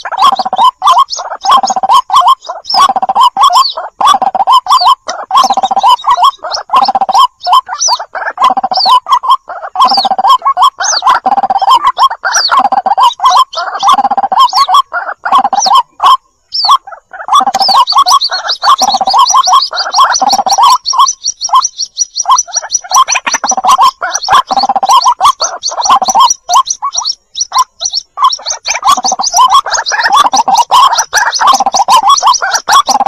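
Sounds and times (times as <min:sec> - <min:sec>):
high chick peeps: 0:00.0 - 0:33.0
waterhen calls: 0:00.0 - 0:33.0.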